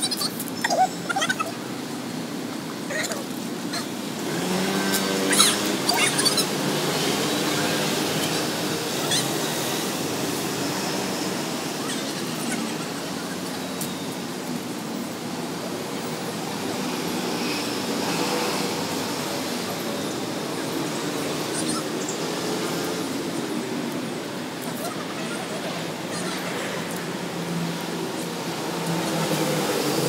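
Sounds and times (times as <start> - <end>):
road traffic hiss: 0.0 - 30.0.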